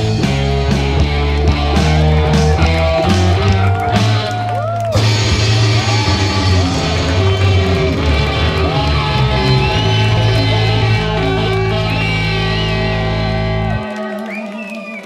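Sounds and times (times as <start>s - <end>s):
low bass line: 0.0s - 14.0s
electric guitar: 0.0s - 15.0s.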